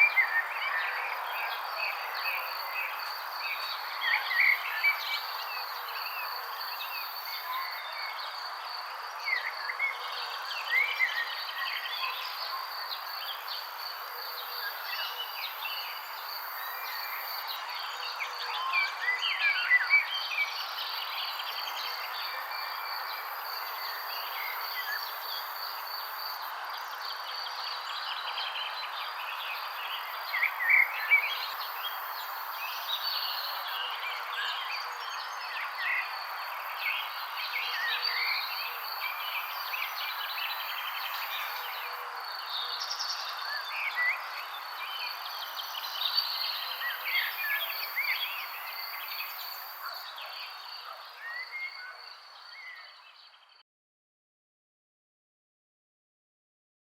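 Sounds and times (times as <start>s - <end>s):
songbirds chirping: 0.0s - 53.6s.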